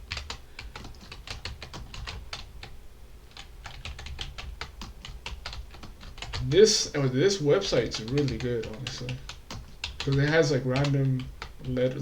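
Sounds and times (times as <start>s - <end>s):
typing on computer keyboard: 0.1s - 2.7s, 3.3s - 6.5s, 7.8s - 12.0s.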